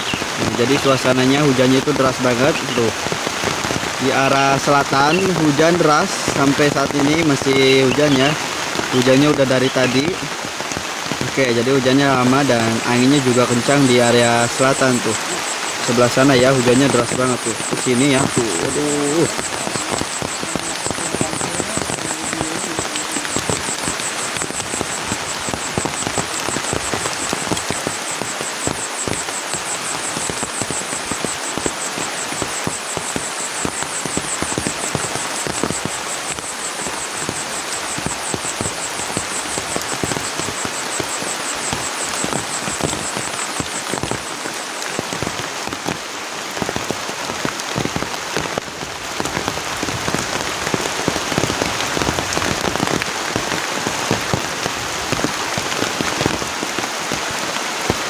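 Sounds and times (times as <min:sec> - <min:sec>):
heavy rain on hut roof: 0:00.0 - 0:58.0.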